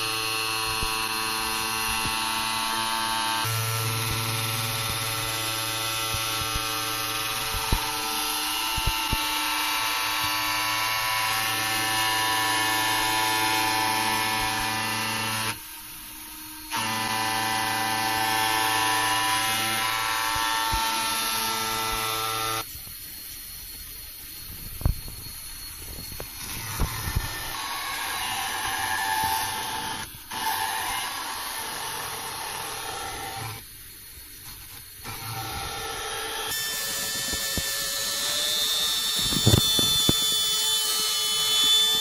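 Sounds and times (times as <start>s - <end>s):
motor whining while grinding steel: 0.0s - 22.7s, 24.5s - 33.7s, 34.4s - 42.0s.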